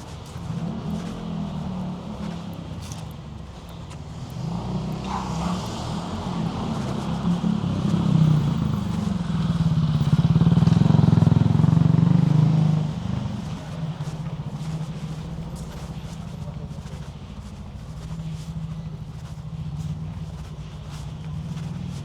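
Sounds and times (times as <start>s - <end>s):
motor vehicle engine passing: 0.1s - 3.2s, 4.0s - 22.0s.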